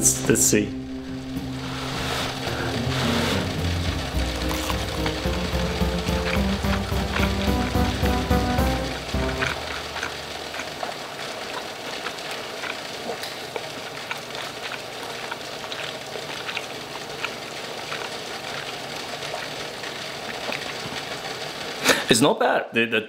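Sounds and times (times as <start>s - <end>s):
water boiling in a pot: 0.0s - 22.4s.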